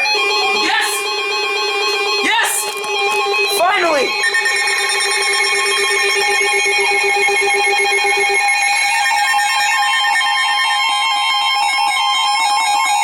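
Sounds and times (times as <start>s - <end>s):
beeping and warbling alarms: 0.0s - 11.0s
steady high alarm tone: 0.0s - 12.6s.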